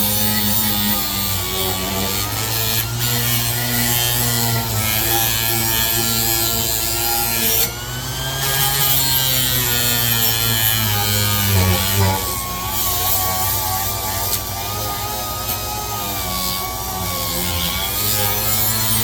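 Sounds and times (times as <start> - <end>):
orbital sander grinding metal: 0.0 - 19.0.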